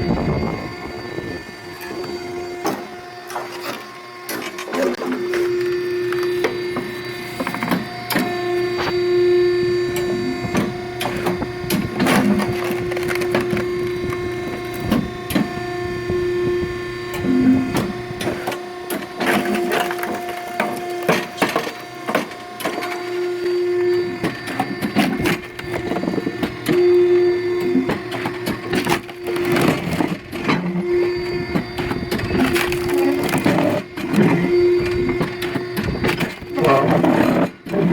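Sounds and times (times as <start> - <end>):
motor hum: 0.0 - 37.9.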